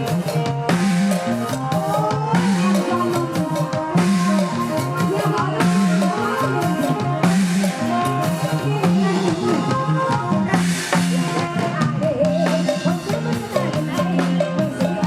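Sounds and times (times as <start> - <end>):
drum kit beat: 0.0 - 15.0
live folk-pop band: 0.0 - 15.0.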